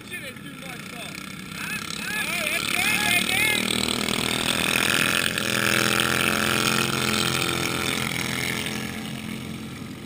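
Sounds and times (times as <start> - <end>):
lawnmower engine passing: 0.0 - 10.0.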